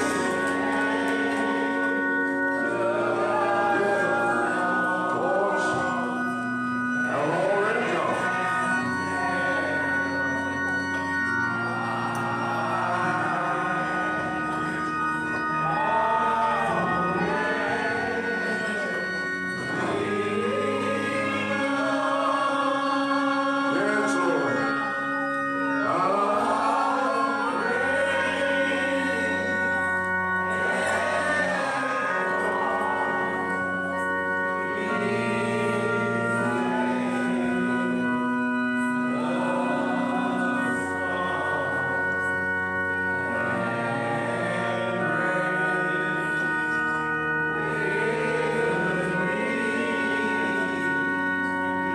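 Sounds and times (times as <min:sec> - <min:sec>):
organ chords: 0:00.0 - 0:51.9
voices singing: 0:00.0 - 0:51.9.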